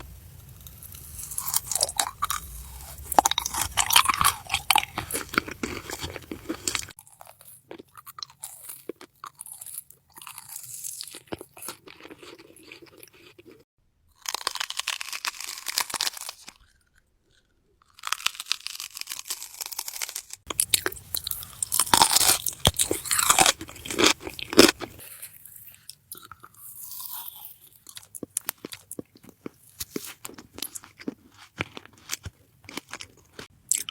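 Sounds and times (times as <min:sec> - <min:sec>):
crunchy chewing: 0:00.0 - 0:13.6, 0:14.2 - 0:33.9.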